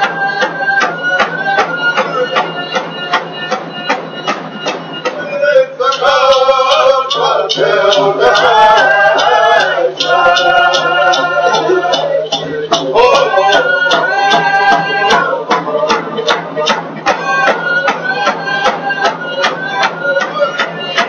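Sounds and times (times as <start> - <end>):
drum beaten in steady beat: 0.0 - 21.0
voices singing: 0.0 - 21.0.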